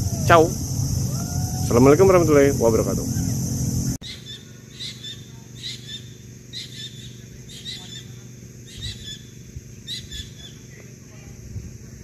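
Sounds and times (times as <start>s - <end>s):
bird chirping: 0.0s - 10.6s.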